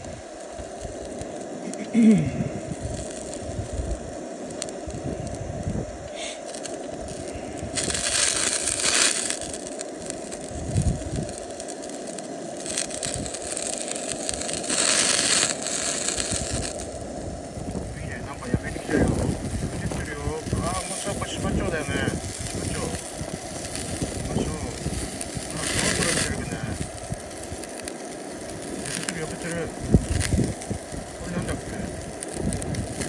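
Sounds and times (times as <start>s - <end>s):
gas burner hiss: 0.0s - 33.0s
meat sizzling on a grill: 0.0s - 33.0s.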